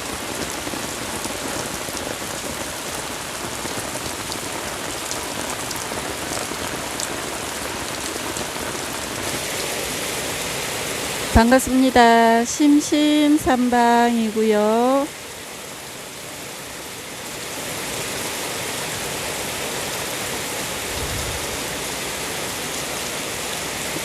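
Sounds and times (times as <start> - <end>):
heavy rain pouring: 0.0 - 24.0
loud raindrops: 0.0 - 24.0.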